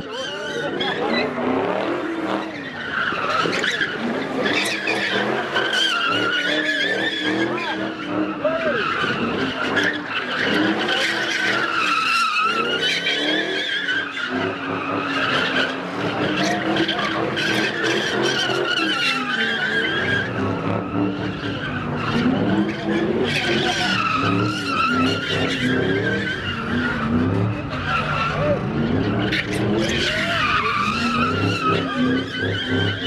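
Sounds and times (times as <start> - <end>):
car engine revving: 0.0 - 33.0
car tires screeching: 0.0 - 33.0.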